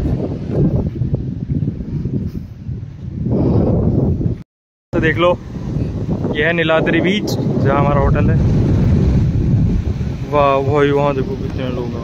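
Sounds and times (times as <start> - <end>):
wind buffeting microphone: 0.0 - 4.4, 5.0 - 12.0.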